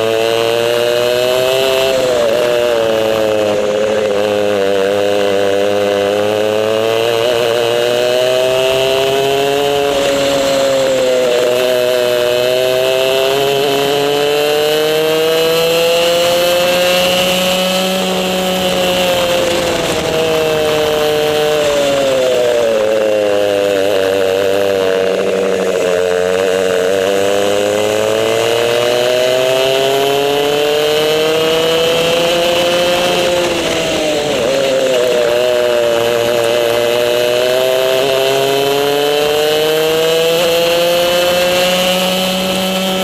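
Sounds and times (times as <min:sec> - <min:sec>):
kart engine revving: 0:00.0 - 0:43.0.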